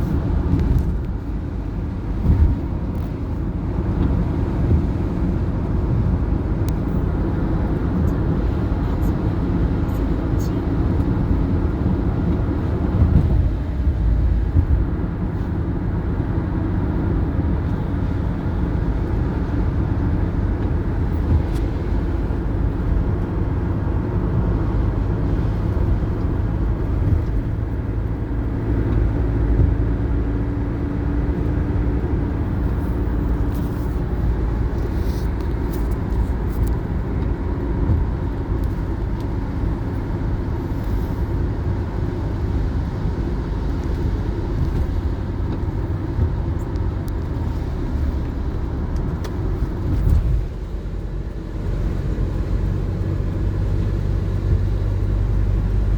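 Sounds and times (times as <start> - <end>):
vehicle rumbling: 0.0 - 55.9.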